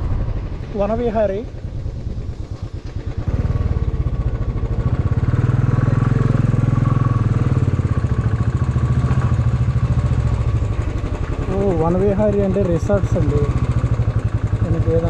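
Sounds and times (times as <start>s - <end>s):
motorcycle engine riding: 0.0s - 15.0s.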